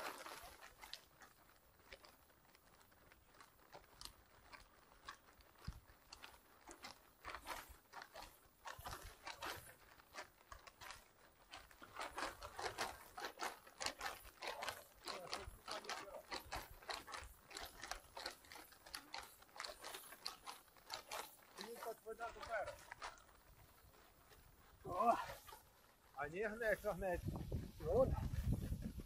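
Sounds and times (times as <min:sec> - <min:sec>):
faint clicks and crunching crackles: 0:00.0 - 0:29.0.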